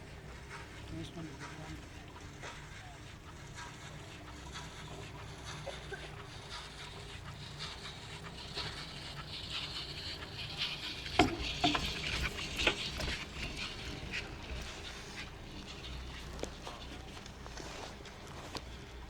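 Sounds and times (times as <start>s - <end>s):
sharp clicks and rattling knocks: 0.4s - 18.7s.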